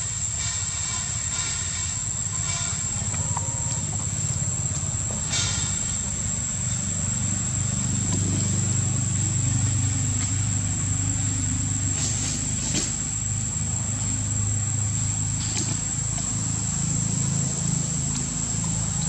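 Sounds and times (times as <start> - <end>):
high-pitched whine: 0.0 - 19.0
low motor hum: 1.4 - 19.0.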